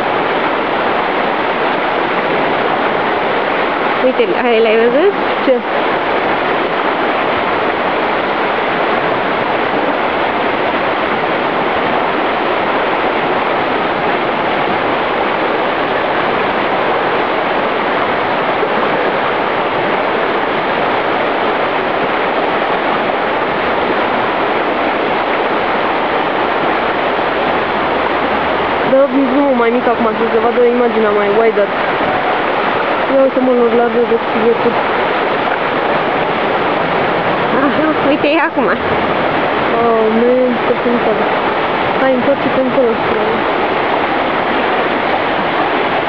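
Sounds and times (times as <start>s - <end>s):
river rapids rushing: 0.0s - 46.0s.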